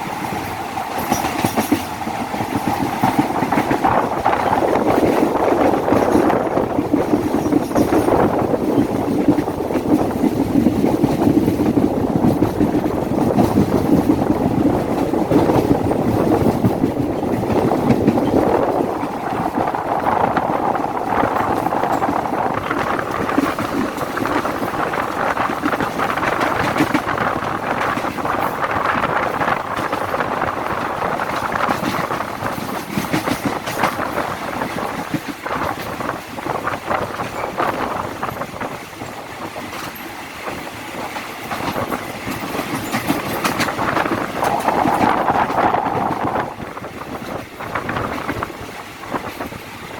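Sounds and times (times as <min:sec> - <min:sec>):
train wheels clattering on rails: 0:00.0 - 0:49.9.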